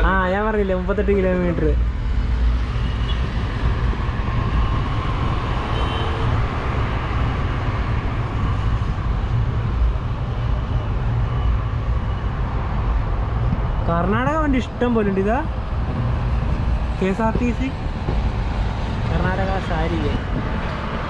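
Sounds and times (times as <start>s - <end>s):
moving train running noise: 0.0s - 21.0s.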